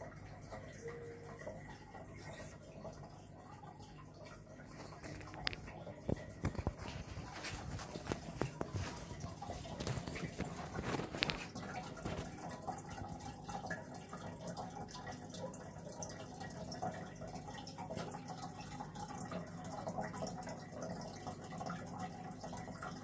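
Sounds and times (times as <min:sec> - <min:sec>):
aquarium water trickling: 0:00.0 - 0:23.0.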